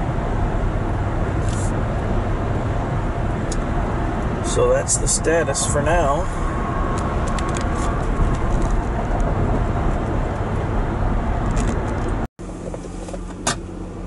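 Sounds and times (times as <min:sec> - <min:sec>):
vehicle road noise at highway speed: 0:00.0 - 0:14.0.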